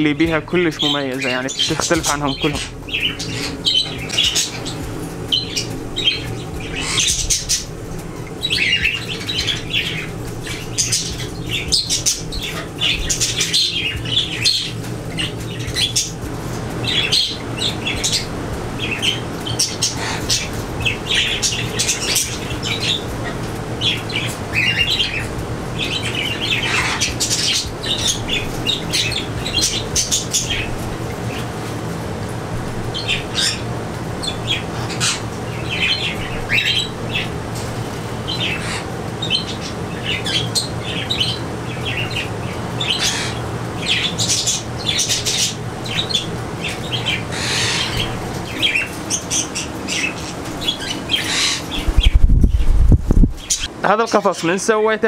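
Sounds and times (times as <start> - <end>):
budgerigars chattering and squawking: 0.0 - 31.8, 32.6 - 52.8, 53.4 - 54.9
steady low hum: 0.0 - 55.0.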